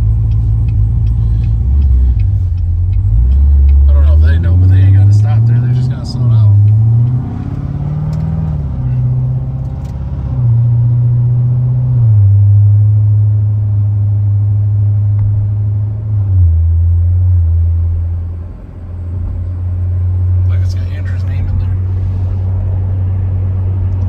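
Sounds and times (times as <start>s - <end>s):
car engine drone in cabin: 0.0s - 24.0s.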